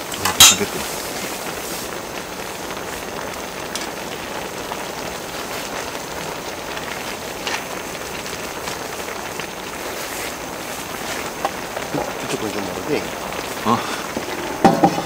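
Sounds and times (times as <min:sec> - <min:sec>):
stew boiling and sizzling: 0:00.0 - 0:15.0.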